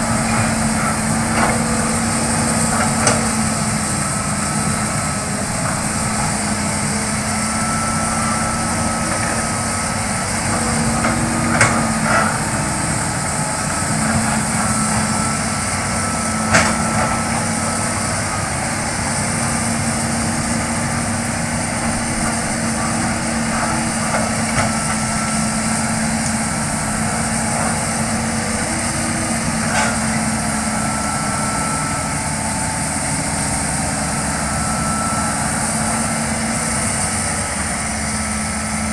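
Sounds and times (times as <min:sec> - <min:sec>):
excavator diesel engine: 0:00.0 - 0:38.9
high hydraulic whine: 0:00.0 - 0:38.9.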